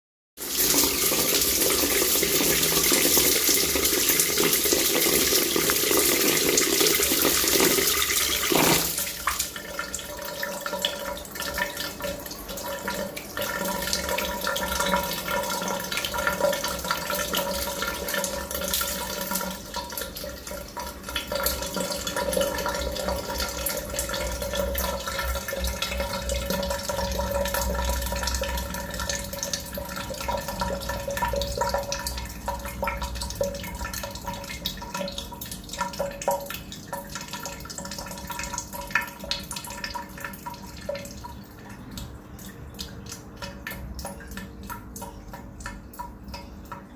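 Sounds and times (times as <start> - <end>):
water drips: 0.4 - 46.9
water tap running: 0.4 - 46.9.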